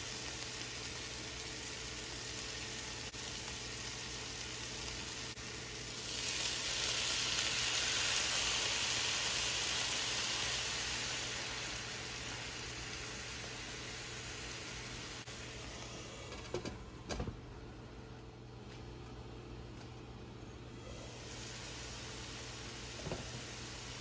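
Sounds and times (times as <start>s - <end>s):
sprouts sizzling in a frying pan: 0.0s - 16.1s, 20.8s - 24.0s.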